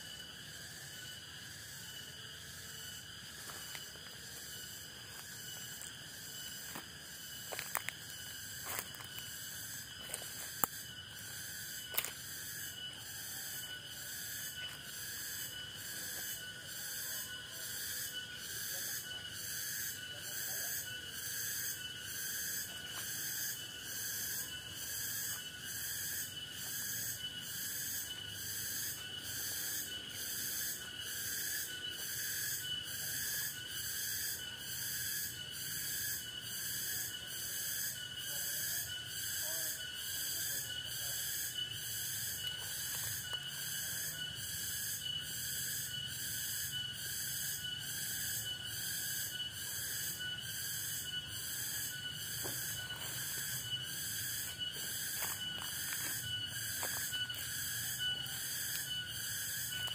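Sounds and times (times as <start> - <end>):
pulsing insect buzz: 0.0 - 59.9
shrill insect trilling: 0.0 - 59.9.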